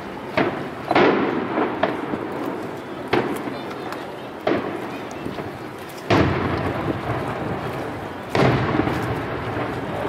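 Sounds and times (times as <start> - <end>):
firework bangs: 0.0 - 10.0
rolling echo rumble: 0.0 - 10.0.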